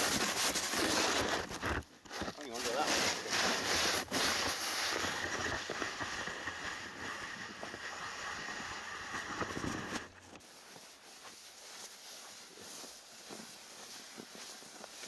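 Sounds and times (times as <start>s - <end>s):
shovel scraping through snow: 0.0s - 15.0s.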